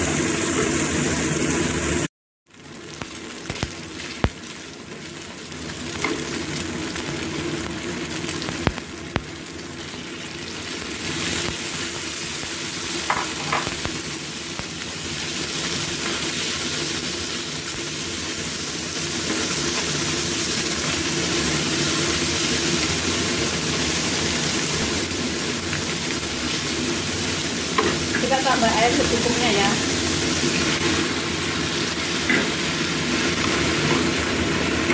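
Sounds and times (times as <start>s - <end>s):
food sizzling in a wok: 0.0s - 34.9s.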